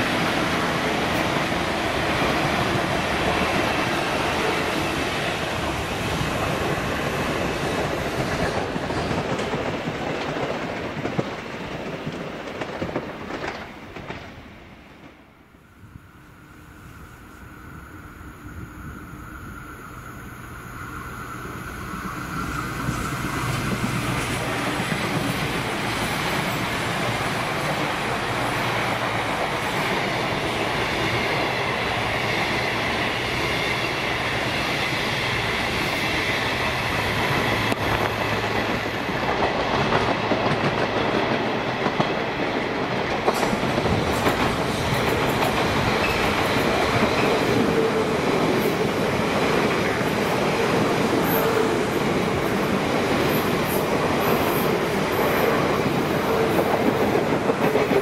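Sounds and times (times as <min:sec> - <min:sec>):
electric train whine: 0:00.0 - 0:11.9, 0:12.7 - 0:58.0
diesel train passing at speed: 0:00.0 - 0:58.0.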